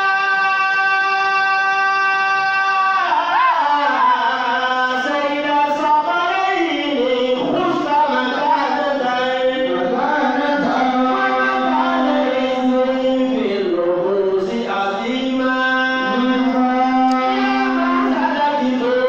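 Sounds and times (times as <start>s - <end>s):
man chanting into a microphone: 0.0s - 19.0s.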